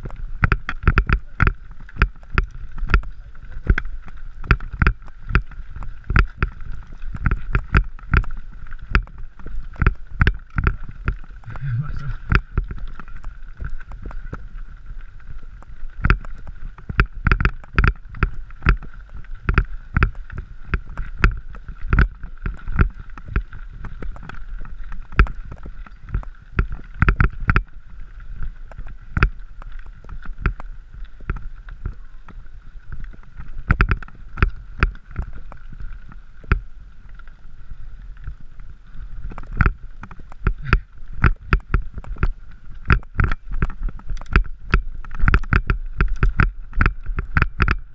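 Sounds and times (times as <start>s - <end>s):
bike rattling over stones: 0.0s - 47.9s.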